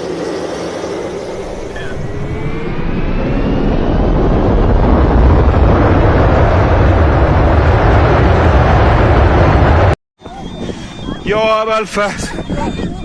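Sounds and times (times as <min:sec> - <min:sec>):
airliner engines and airflow rumble: 0:00.0 - 0:13.0.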